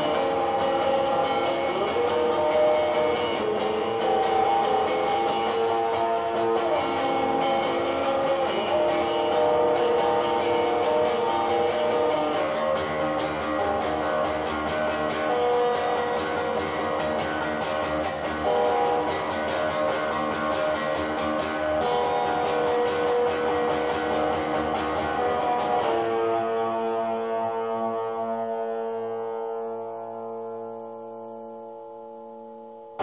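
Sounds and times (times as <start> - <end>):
electric guitar strumming: 0.0 - 33.0.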